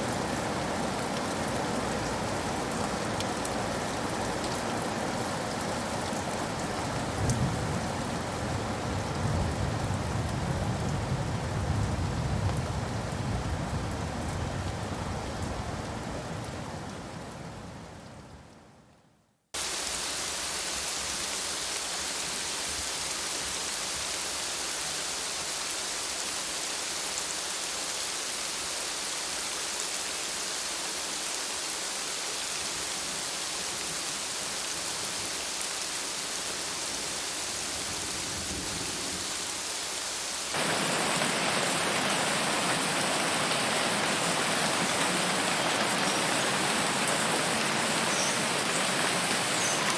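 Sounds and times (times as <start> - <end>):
loud hissy rain: 0.0 - 18.6, 19.6 - 49.9
steady rain: 0.0 - 49.9.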